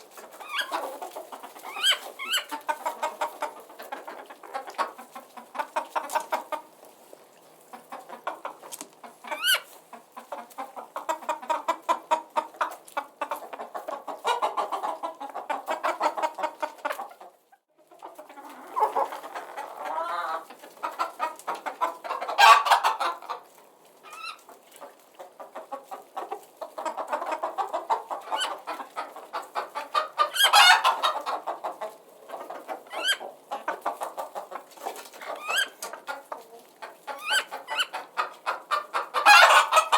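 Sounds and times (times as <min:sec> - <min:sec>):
chickens clucking: 0:00.0 - 0:39.9
chicken squawks: 0:00.2 - 0:06.6, 0:07.8 - 0:17.2, 0:18.1 - 0:23.4, 0:24.0 - 0:24.5, 0:26.8 - 0:39.9.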